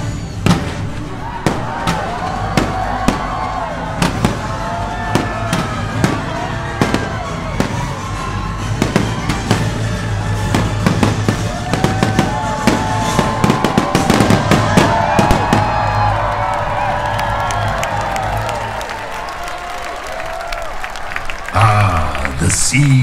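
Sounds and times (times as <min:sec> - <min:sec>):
fireworks bangs and crackling: 0:00.0 - 0:19.6
music: 0:00.0 - 0:23.0.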